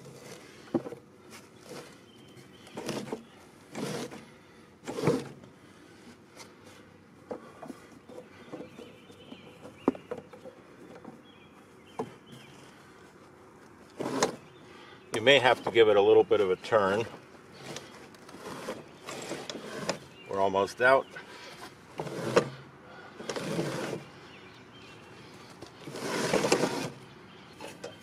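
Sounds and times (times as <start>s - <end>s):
mower deck scraping over grass: 0.0s - 28.0s.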